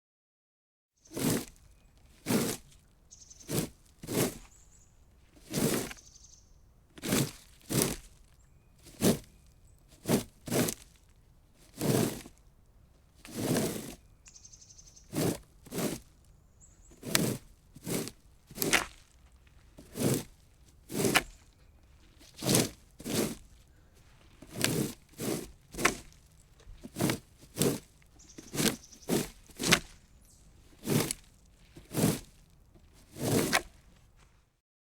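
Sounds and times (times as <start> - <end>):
plastic rake scraping: 1.0 - 6.2, 7.0 - 12.4, 13.0 - 34.5.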